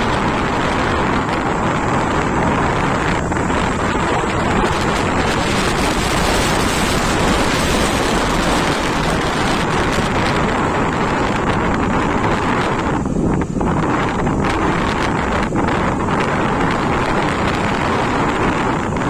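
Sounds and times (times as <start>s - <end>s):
motorcycle engine: 0.0s - 19.0s
road noise: 0.0s - 19.0s
wind rushing over microphone: 0.0s - 19.0s.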